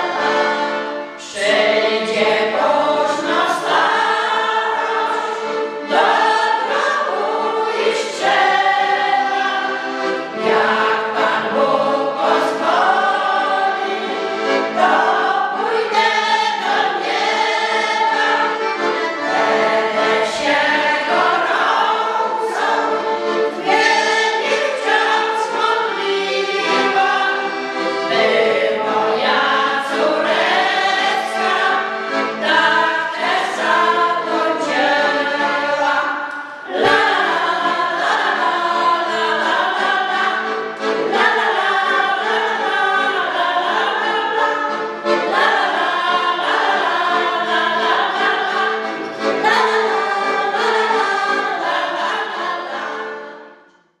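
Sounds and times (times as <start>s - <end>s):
piano accordion: 0.0s - 53.8s
women's choir singing folk song: 0.0s - 54.0s.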